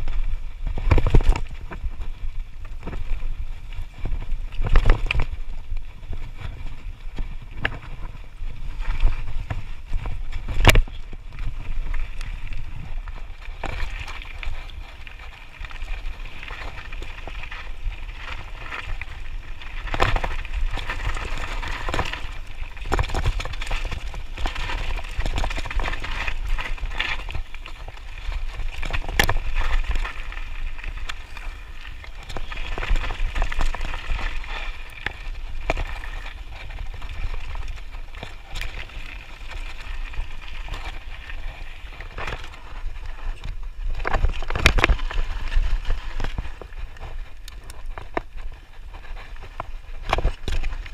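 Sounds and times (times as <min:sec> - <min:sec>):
bike tyres on gravel: 0:00.0 - 0:50.9.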